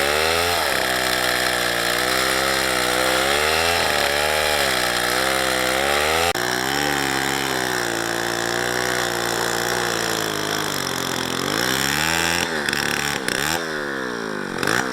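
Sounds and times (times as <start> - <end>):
small chainsaw engine running: 0.0 - 14.9.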